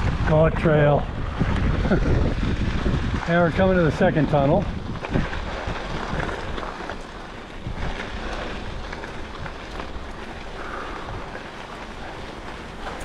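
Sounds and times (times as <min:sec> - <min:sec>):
bicycle tyres rolling on dirt: 0:00.0 - 0:13.0
wind on microphone: 0:00.0 - 0:13.0.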